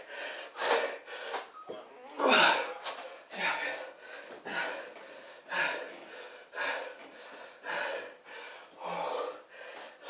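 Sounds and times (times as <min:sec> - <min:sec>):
man breathing hard: 0:00.0 - 0:01.5, 0:02.3 - 0:10.0.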